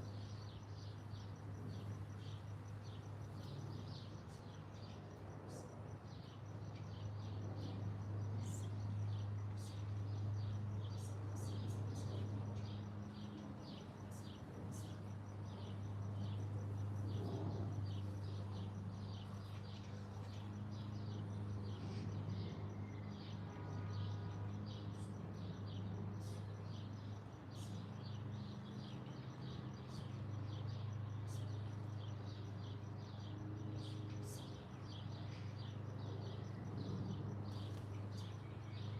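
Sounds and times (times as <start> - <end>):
small birds chirping: 0.0 - 38.9
steady low hum: 0.0 - 38.9.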